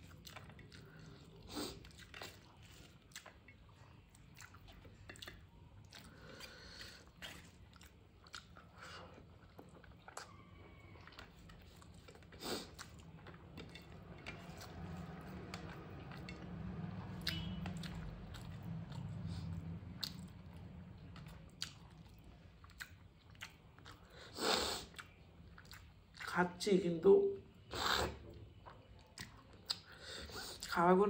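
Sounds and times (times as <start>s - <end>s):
close chewing of food: 0.0s - 26.7s, 27.4s - 31.0s.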